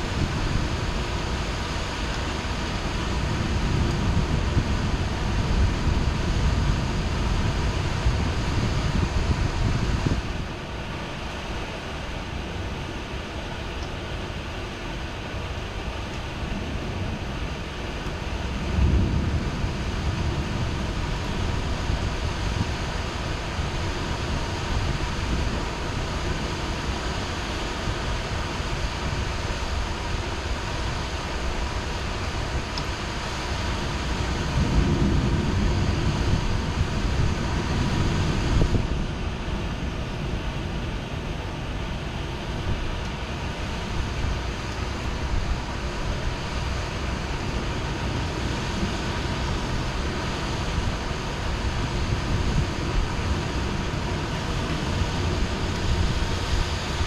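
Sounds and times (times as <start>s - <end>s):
low thunder rumble: 0.0s - 11.4s, 15.5s - 57.0s
heavy rain falling: 0.0s - 57.0s.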